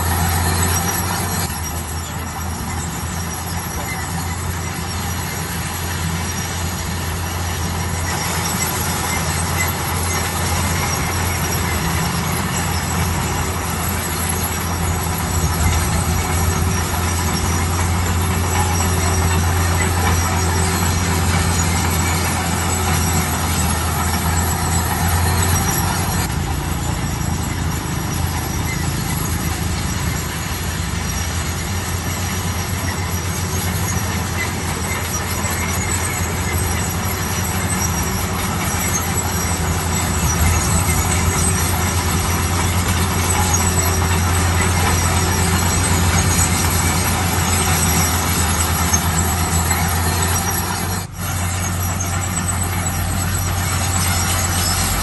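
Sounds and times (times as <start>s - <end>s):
bulldozer diesel drone: 0.0s - 55.0s
crawler tracks squealing: 0.0s - 55.0s.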